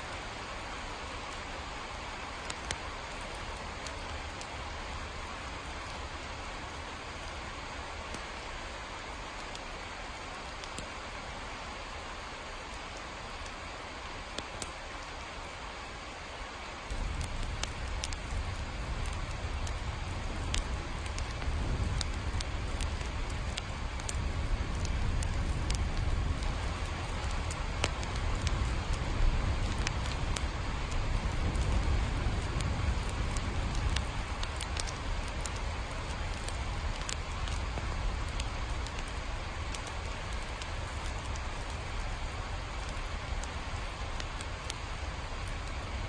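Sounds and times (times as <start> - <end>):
raindrops ticking: 0.0 - 11.2, 11.8 - 15.8, 16.8 - 46.0
rain hiss: 0.0 - 46.0.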